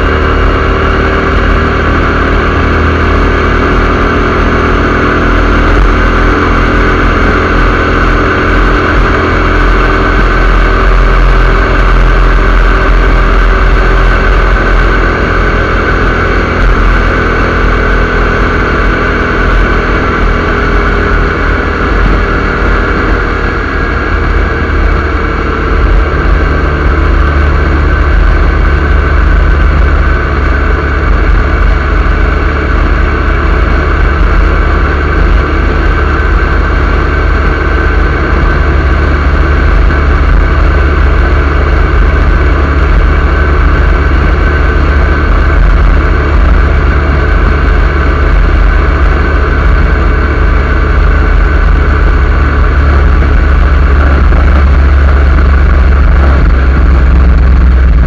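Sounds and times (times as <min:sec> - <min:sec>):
loud wind rush: 0:00.0 - 0:58.0
low wind rumble on microphone: 0:00.0 - 0:58.0
motorcycle engine running: 0:00.0 - 0:58.0.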